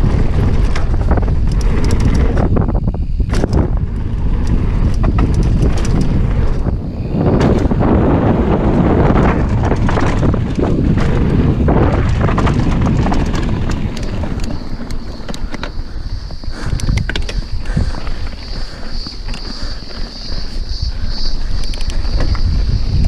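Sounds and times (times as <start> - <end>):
bike rattling: 0.0 - 23.0
bike tyres rolling on dirt: 0.0 - 23.0
wind rushing over microphone: 0.0 - 23.0.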